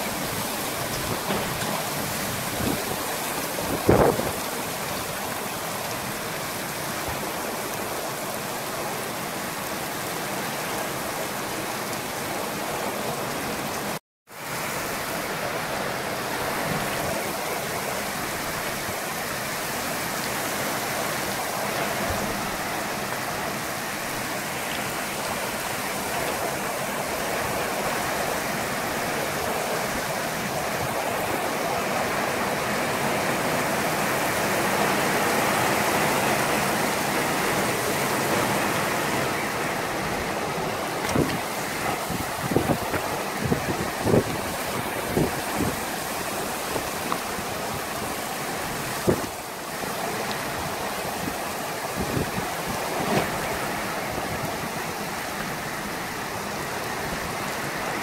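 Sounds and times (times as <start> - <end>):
torrential wind-driven rain: 0.0 - 58.0.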